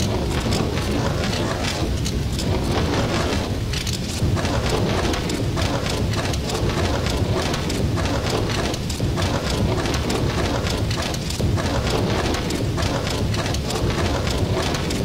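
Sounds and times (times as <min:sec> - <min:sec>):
rain pattering on windshield: 0:00.0 - 0:15.0
steady low rumble: 0:00.0 - 0:15.0.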